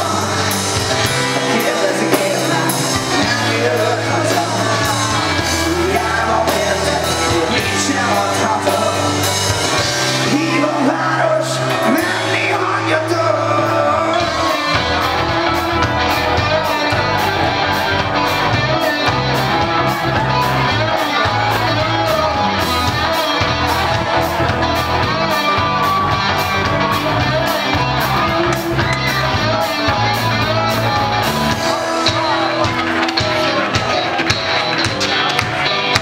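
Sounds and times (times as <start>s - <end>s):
live pop-rock band: 0.0s - 36.0s.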